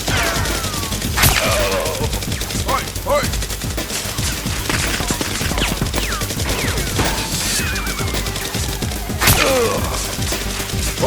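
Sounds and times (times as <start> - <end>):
rapid gunfire: 0.0 - 11.0.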